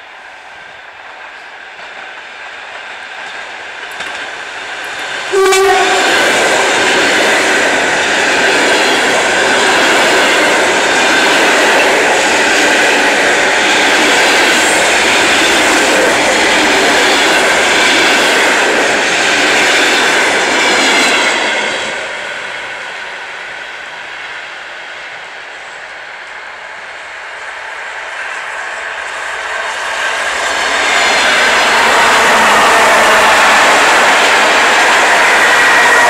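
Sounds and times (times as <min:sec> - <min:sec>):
train passing at speed: 0:00.0 - 0:36.0.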